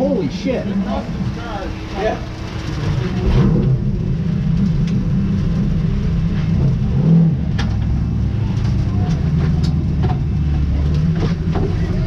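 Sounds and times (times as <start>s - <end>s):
vehicle engine at low revs: 0.0s - 12.0s.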